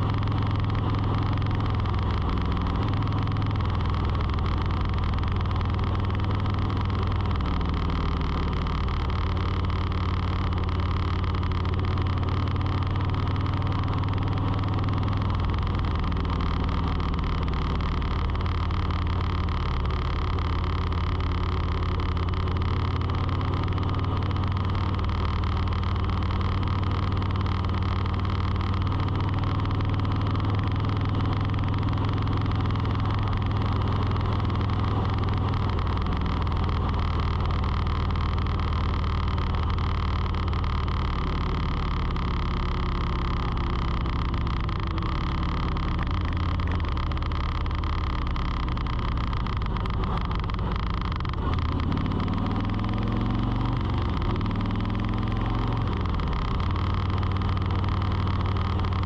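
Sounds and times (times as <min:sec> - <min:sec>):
steady rushing noise: 0:00.0 - 0:59.0.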